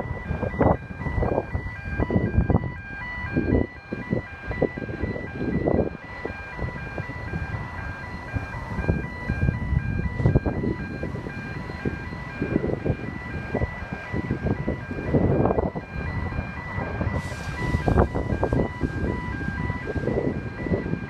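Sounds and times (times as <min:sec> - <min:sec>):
diesel locomotives rumbling: 0:00.0 - 0:21.0
level crossing warning bells: 0:00.0 - 0:21.0.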